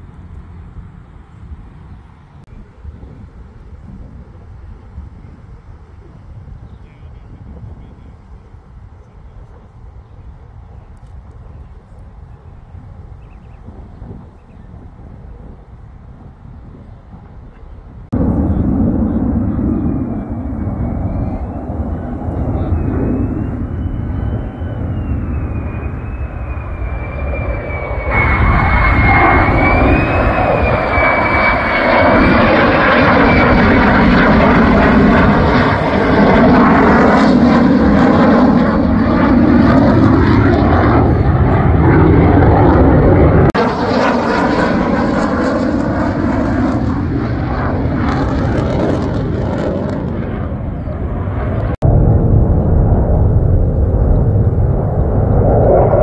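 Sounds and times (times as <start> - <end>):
high wavering jet whine: 0.0 - 56.0
jet roar: 0.0 - 56.0.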